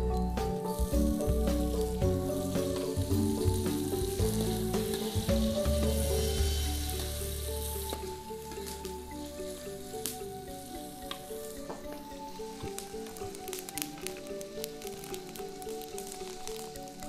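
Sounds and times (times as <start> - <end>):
vegetables sizzling in wok: 0.0 - 17.0.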